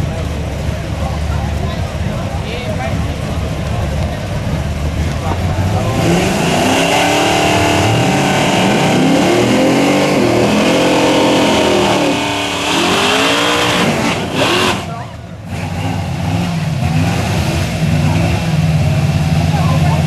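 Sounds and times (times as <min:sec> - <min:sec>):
drag car engines revving: 0:00.0 - 0:20.0.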